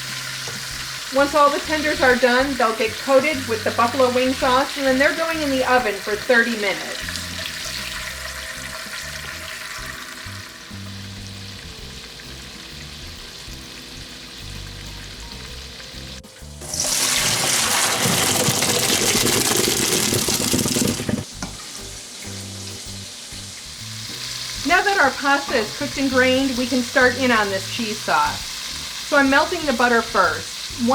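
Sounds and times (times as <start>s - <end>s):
background music: 0.0s - 20.5s, 21.2s - 30.9s
chicken sizzling in oil: 0.0s - 30.9s.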